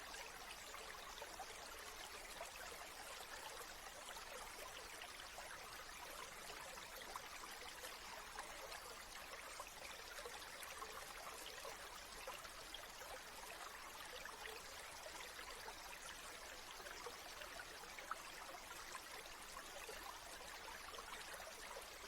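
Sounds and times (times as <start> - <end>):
stream trickling and babbling: 0.0 - 22.0.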